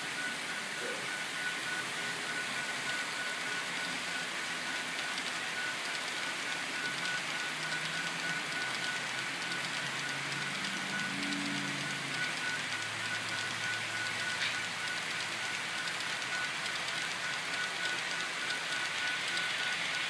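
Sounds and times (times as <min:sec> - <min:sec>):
model train cars rolling on track: 0:00.1 - 0:20.0.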